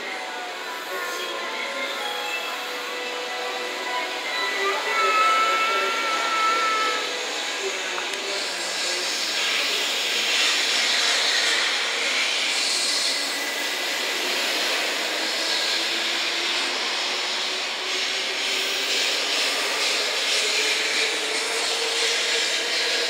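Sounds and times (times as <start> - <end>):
train wheel and running noise: 0.0 - 23.0.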